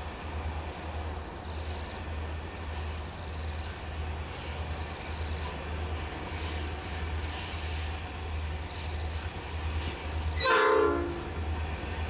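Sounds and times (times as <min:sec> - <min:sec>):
diesel locomotives rumbling: 0:00.0 - 0:12.0.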